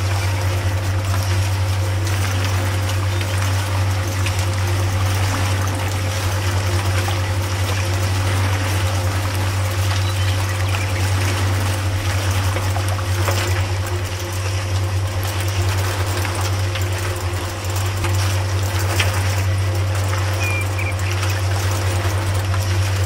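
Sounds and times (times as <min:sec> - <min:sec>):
constant low hum: 0:00.0 - 0:23.0
liquid trickling: 0:00.0 - 0:23.0.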